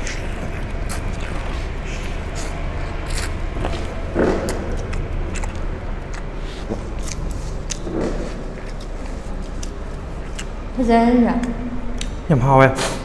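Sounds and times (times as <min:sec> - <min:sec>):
chewing and slurping noodles: 0:00.0 - 0:10.7
steady low hum: 0:00.0 - 0:13.0.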